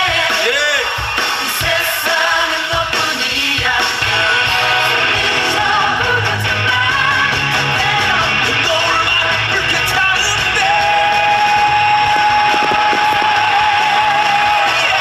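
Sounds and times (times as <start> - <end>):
loud rock music with singing: 0.0 - 15.0.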